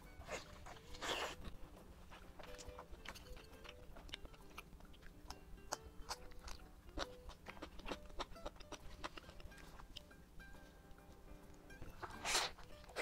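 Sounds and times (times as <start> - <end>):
faint background music: 0.0 - 13.0
chewing crunchy food: 0.2 - 11.2.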